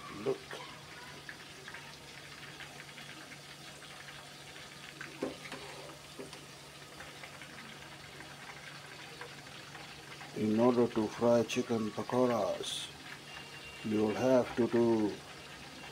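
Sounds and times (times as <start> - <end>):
food deep-frying in oil: 0.0 - 15.9.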